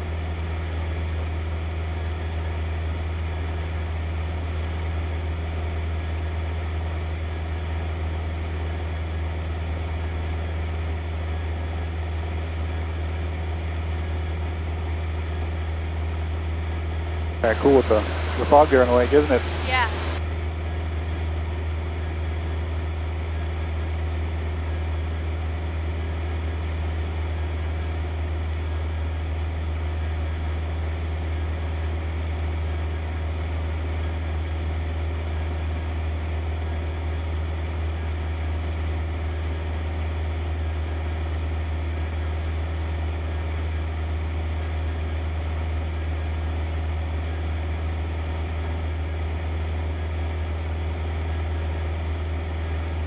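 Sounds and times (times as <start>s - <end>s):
airplane engine and propeller droning: 0.0s - 53.0s.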